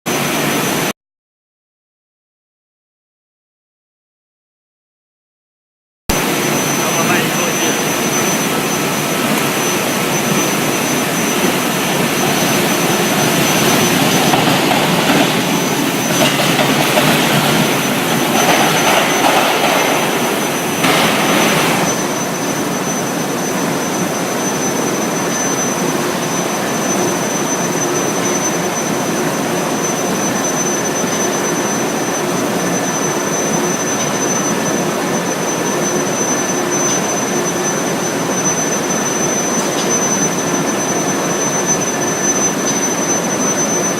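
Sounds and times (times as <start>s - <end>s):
furnace machine noise: 6.1s - 43.9s
high-pitched whine: 6.1s - 43.9s.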